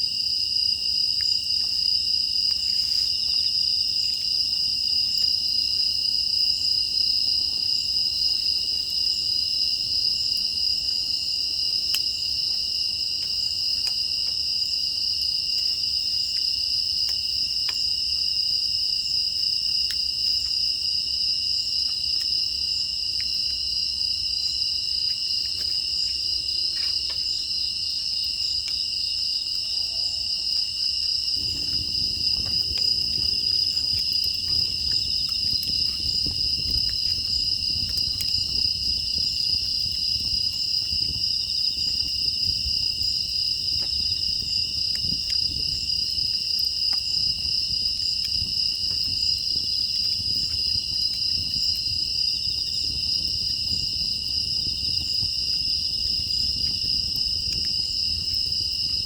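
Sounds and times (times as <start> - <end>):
crickets chirring: 0.0 - 59.0
wood fire crackling: 0.0 - 59.0.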